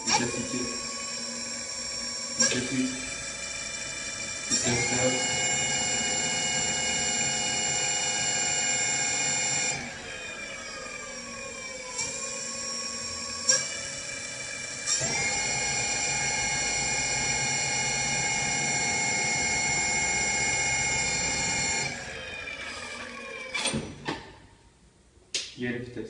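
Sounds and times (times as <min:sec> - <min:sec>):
electric bike motor whining: 0:00.0 - 0:23.6.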